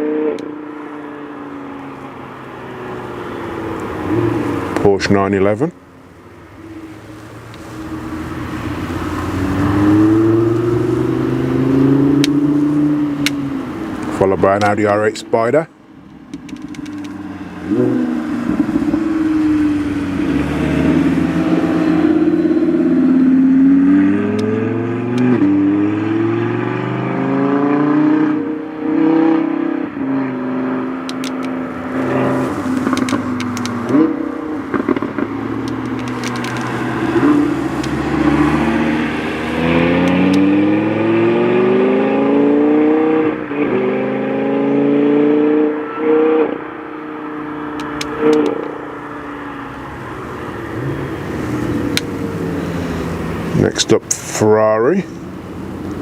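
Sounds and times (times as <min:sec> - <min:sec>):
car engines accelerating hard: 0:00.0 - 0:56.0.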